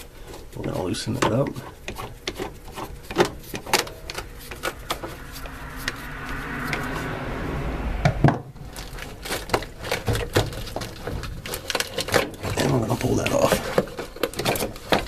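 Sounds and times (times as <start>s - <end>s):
rubbing and handling noise: 0.0s - 6.1s, 8.6s - 15.0s.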